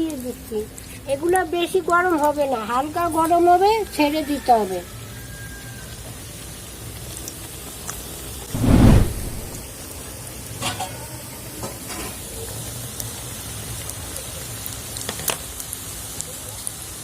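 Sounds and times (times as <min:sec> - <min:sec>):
dough sizzling in oil: 0:00.0 - 0:08.5, 0:09.8 - 0:17.0.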